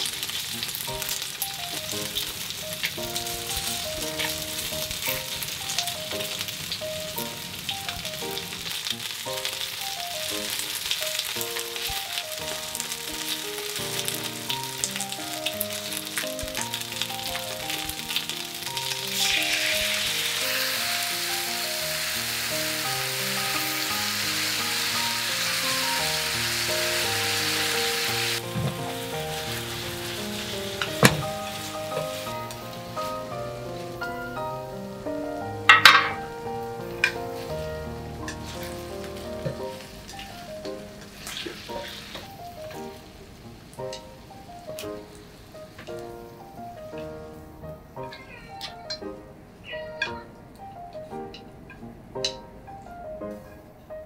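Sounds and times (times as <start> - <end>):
sauce hissing in hot pan: 0.0 - 46.7
meat sizzling in a frying pan: 0.0 - 47.4
soft background music: 0.0 - 54.0.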